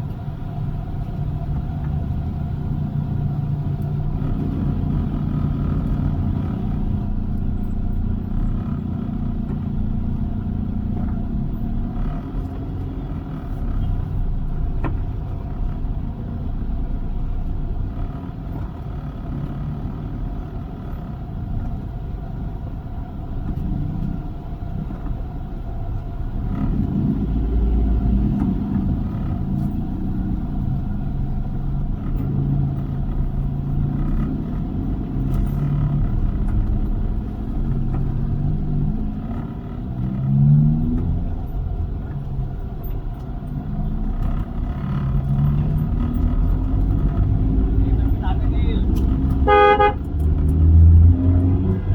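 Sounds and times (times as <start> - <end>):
car engine rumble: 0.0 - 51.9
road noise: 0.0 - 51.9.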